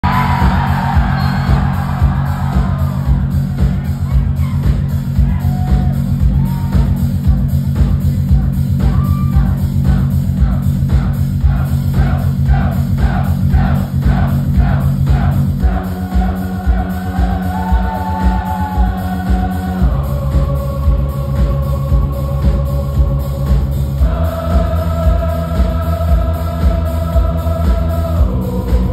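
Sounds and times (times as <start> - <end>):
drums: 0.0 - 28.9
electric bass line: 0.0 - 28.9.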